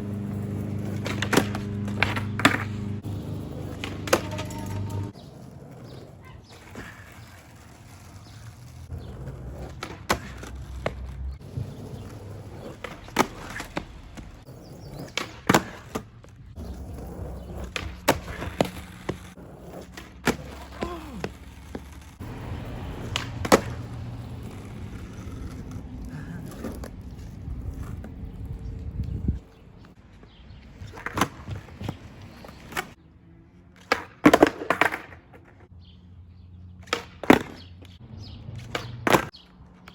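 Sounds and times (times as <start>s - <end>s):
skateboard clacking: 0.0s - 29.1s, 33.8s - 35.7s, 36.8s - 39.9s
skateboard wheels rolling: 0.0s - 35.7s, 36.8s - 39.9s.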